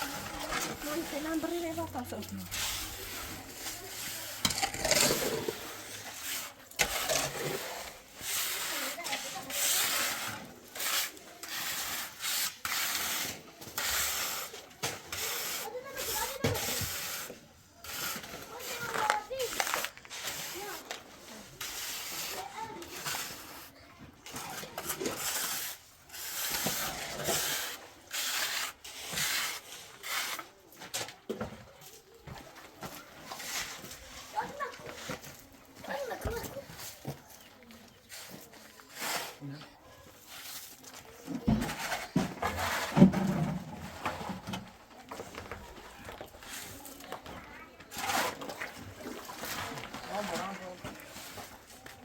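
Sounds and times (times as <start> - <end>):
hand tool scraping wet mortar: 0.0 - 52.0.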